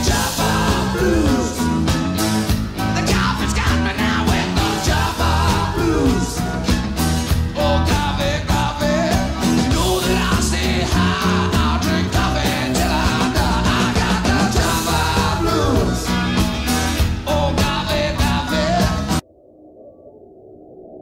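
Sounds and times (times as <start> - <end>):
rock song with singing: 0.0 - 19.2.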